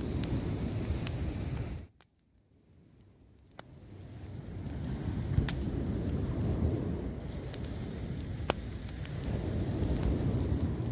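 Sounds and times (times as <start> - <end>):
low rumble of surf: 0.0 - 1.9, 3.7 - 10.9
campfire crackling: 0.0 - 10.9
sharp pops of fire: 0.0 - 10.9.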